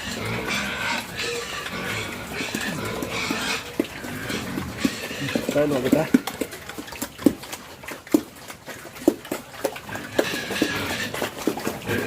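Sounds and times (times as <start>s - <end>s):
pigs chomping feed: 0.0s - 12.0s
pigs grunting: 0.0s - 12.0s.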